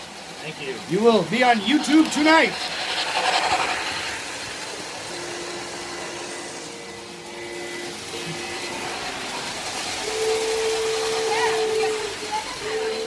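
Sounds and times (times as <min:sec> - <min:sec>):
model train motor whirring: 0:00.0 - 0:13.0.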